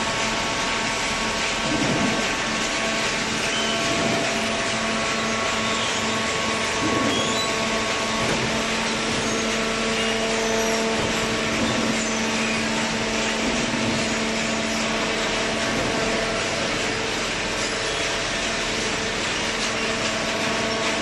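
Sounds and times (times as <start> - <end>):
baler machine humming: 0.0 - 21.0.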